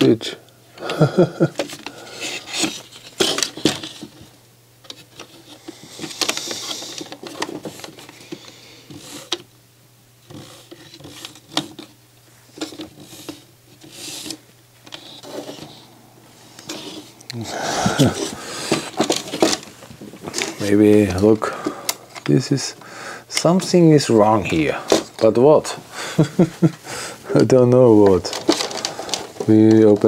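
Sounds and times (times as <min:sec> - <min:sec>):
plastic parts clicking and scraping: 0:00.8 - 0:09.5, 0:10.2 - 0:15.9, 0:16.5 - 0:17.2, 0:18.0 - 0:25.5, 0:27.4 - 0:30.0.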